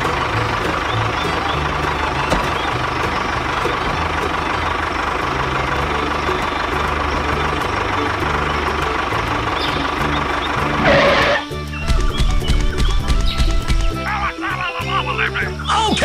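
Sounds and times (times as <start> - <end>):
truck engine idling with whine: 0.0 - 16.0.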